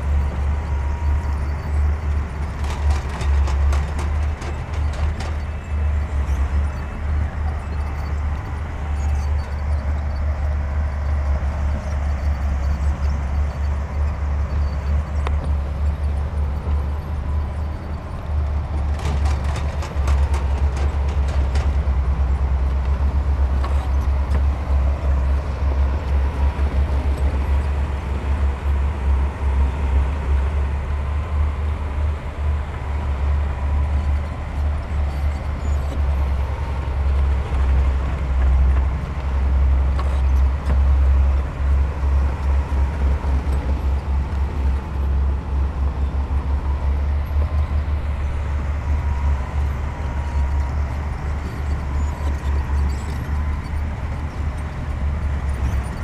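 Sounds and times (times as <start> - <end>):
heavy diesel machinery rumble: 0.0 - 56.0.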